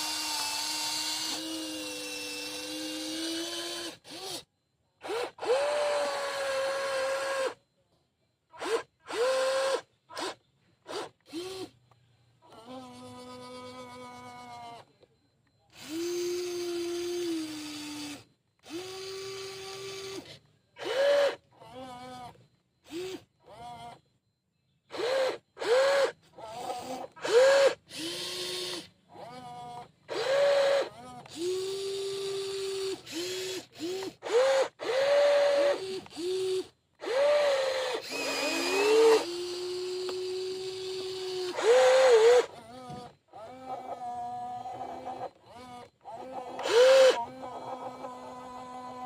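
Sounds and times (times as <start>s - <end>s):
electric motors whining: 0.0s - 7.6s, 8.5s - 24.2s, 24.9s - 49.0s.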